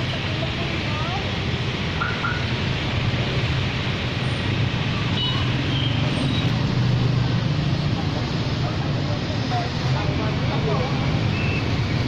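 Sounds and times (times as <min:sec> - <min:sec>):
street traffic wash: 0:00.0 - 0:12.0.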